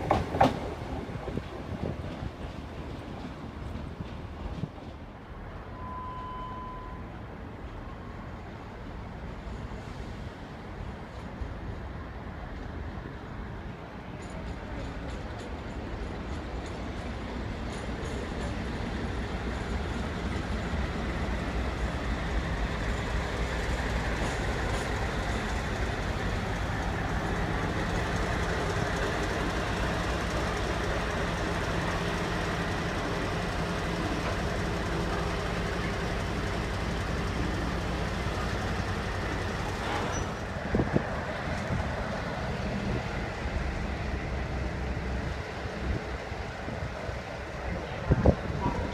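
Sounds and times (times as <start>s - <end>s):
diesel train engine passing: 0.0s - 48.9s.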